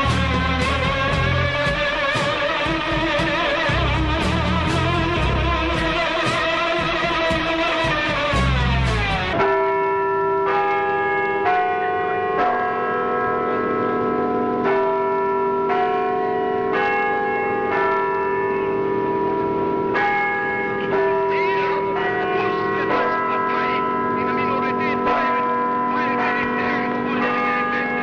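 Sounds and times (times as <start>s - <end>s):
bells ringing: 0.0s - 28.0s.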